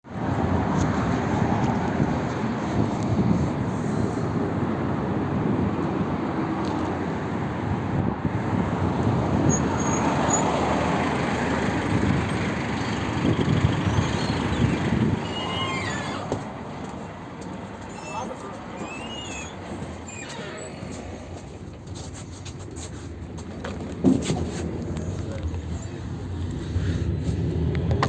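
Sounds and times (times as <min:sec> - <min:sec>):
minibus engine and road noise: 0:00.0 - 0:28.0.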